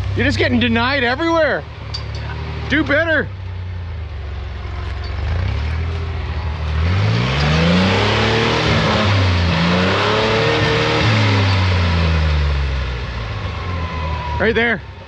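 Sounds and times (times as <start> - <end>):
off-road vehicle engine revving: 0.0 - 14.9.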